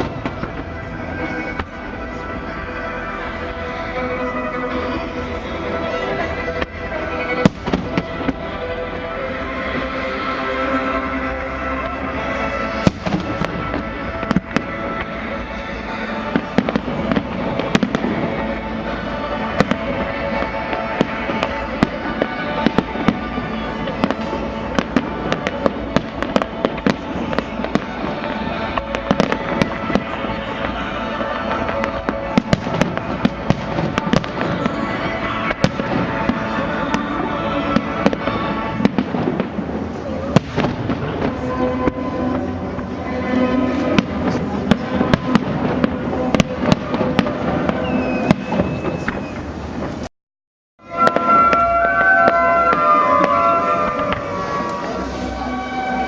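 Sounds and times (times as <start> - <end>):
fireworks sharp bangs: 0.0 - 50.1, 50.8 - 56.0
music playing: 0.0 - 50.1, 50.8 - 56.0.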